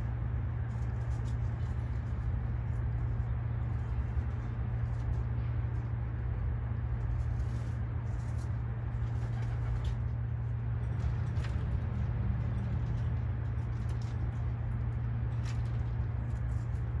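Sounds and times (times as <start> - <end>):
low hum and rumble: 0.0 - 17.0.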